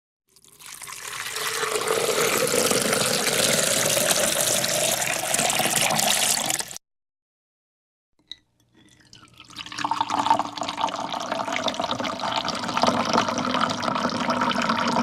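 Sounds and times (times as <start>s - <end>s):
drink pouring into a glass: 0.3s - 6.8s, 8.8s - 15.0s.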